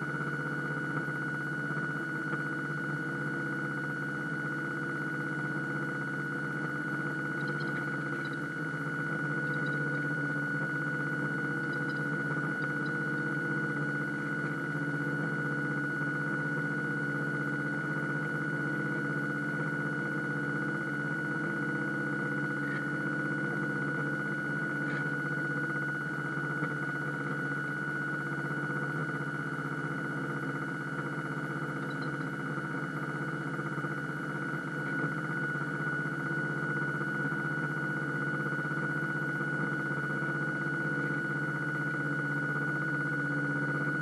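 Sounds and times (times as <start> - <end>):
electric motor whine and hum: 0.0 - 44.0.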